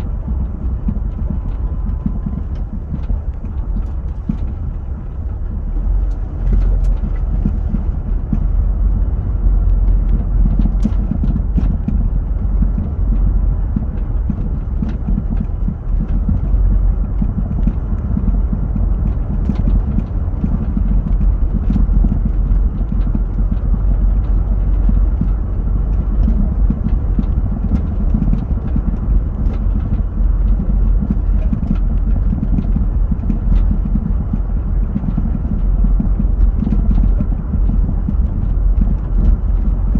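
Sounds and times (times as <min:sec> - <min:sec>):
heavy road rumble: 0:00.0 - 0:39.9
suspension knocking: 0:00.0 - 0:39.9.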